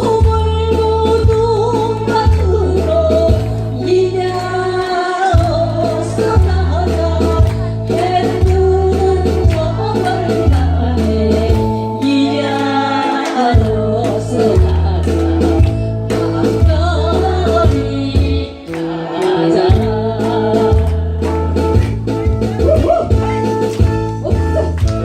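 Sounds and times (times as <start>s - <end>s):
music with steady bass beat: 0.0s - 18.9s, 19.5s - 25.0s
person singing: 0.0s - 21.8s.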